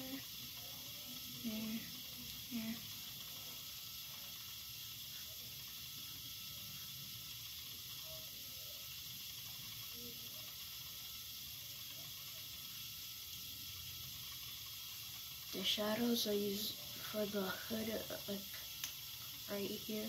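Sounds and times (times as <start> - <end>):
room tone hiss: 0.0 - 20.0.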